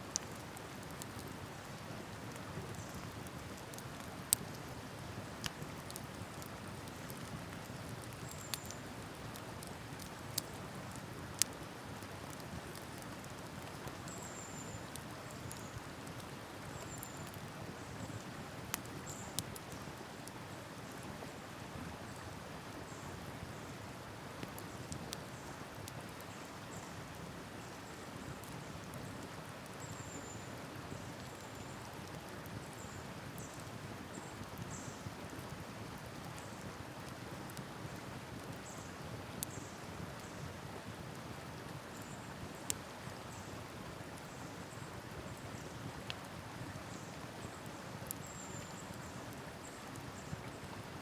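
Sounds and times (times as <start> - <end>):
wood campfire crackling: 0.0 - 51.0.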